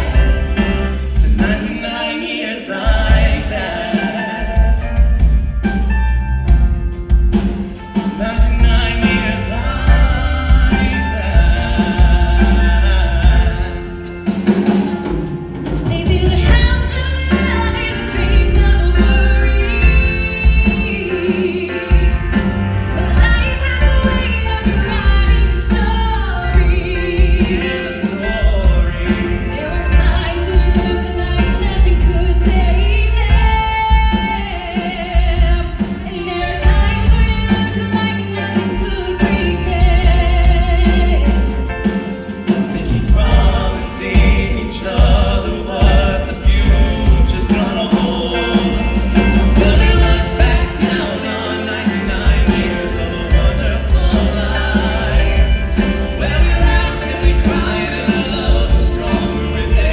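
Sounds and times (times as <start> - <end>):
woman and man singing duet: 0.0 - 5.8, 7.8 - 59.9
drums: 0.0 - 59.9
guitars: 0.0 - 59.9
piano: 0.0 - 59.9.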